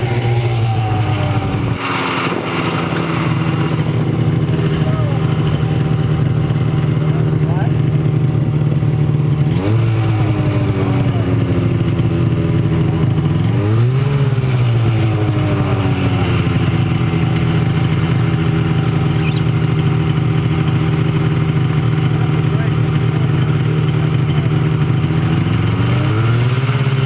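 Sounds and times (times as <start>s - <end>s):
snowmobile engine idling and revving: 0.0s - 27.0s.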